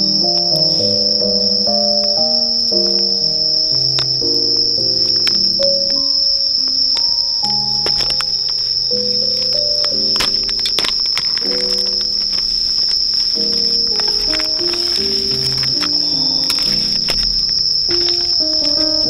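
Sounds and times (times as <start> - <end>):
crickets chirring: 0.0 - 19.0
melodic background music: 0.0 - 19.0.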